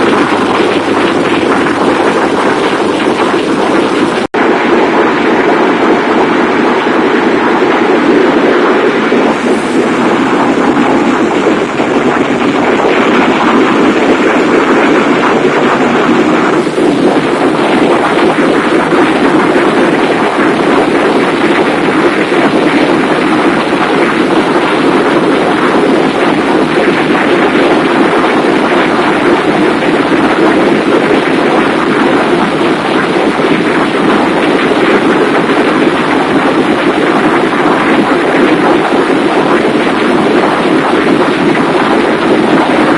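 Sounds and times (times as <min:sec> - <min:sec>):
ship engine room machinery din: 0:00.0 - 0:42.9.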